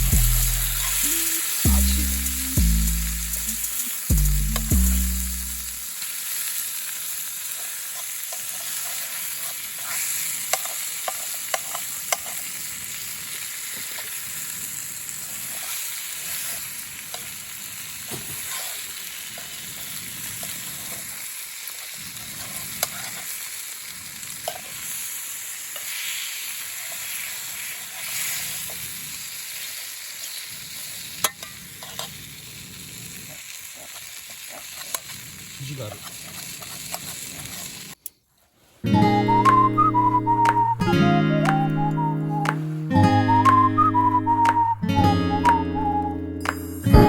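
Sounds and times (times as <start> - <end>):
steak sizzling in a frying pan: 0.0 - 38.0.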